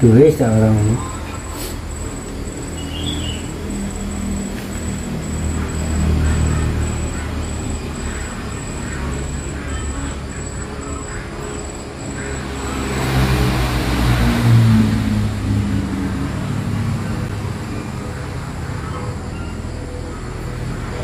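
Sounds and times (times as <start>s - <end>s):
high-pitched pulsing tone: 0.0s - 21.0s
motor engine running: 0.0s - 21.0s.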